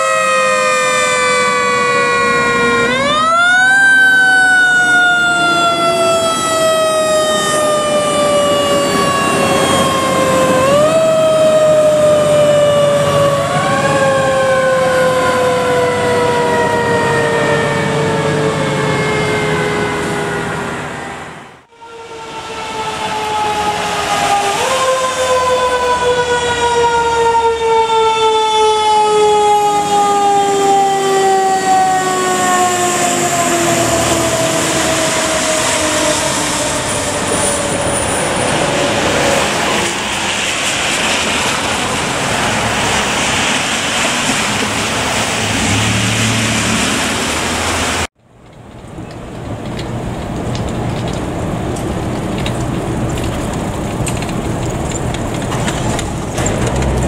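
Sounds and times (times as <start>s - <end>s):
fire engine siren winding down: 0.0s - 48.1s
traffic on a wet street: 0.0s - 57.0s.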